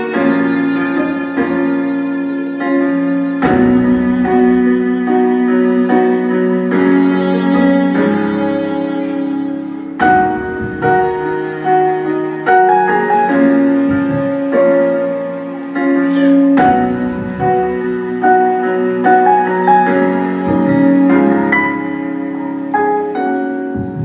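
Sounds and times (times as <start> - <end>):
slow gentle piano music: 0.0 - 24.0.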